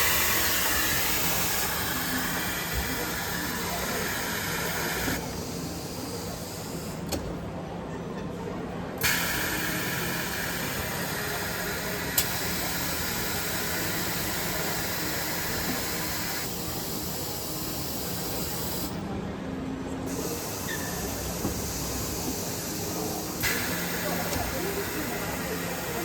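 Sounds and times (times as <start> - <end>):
busy exhibition hall din: 0.0 - 26.0.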